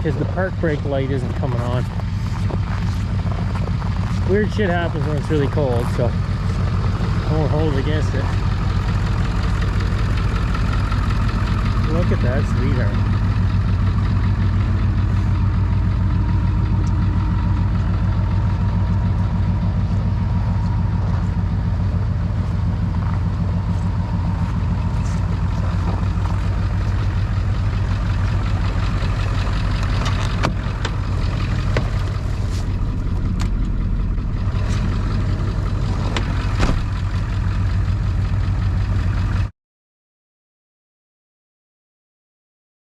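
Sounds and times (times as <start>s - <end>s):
truck engine idling: 0.0s - 39.5s.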